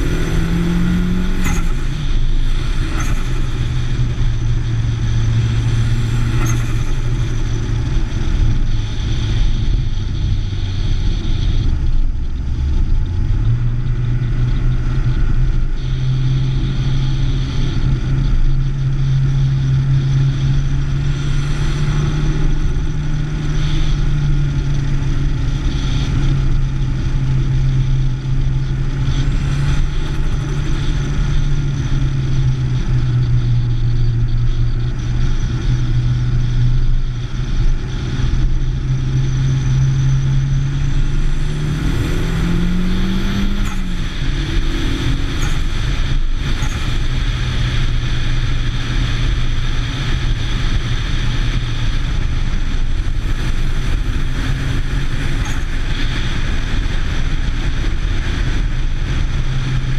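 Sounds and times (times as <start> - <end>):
car engine running: 0.0 - 59.9
road and wind noise: 0.0 - 59.9.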